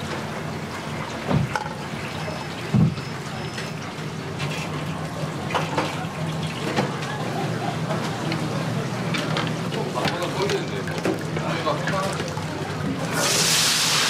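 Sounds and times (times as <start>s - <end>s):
hot water sloshing and pouring: 0.0s - 7.1s, 9.2s - 14.0s.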